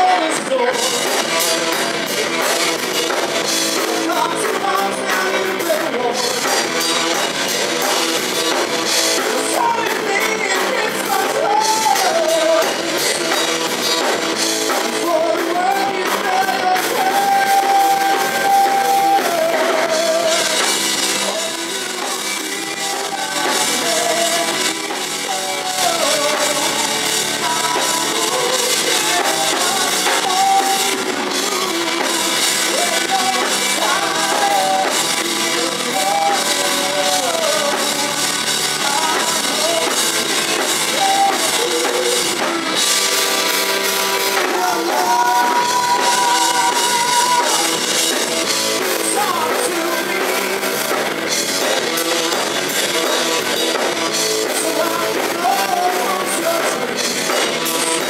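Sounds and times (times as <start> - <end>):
bass guitar: 0.0 - 58.0
drum kit: 0.0 - 58.0
electric guitar: 0.0 - 58.0
man singing: 0.0 - 58.0.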